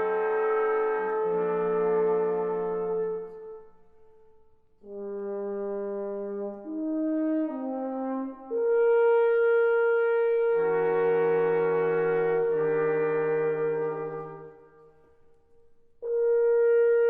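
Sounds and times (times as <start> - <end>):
brass ensemble playing chords: 0.0 - 3.8, 4.8 - 14.9, 16.0 - 17.0.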